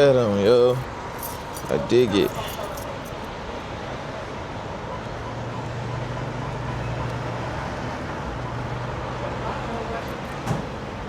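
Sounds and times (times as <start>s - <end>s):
truck stop background noise: 0.0s - 11.0s.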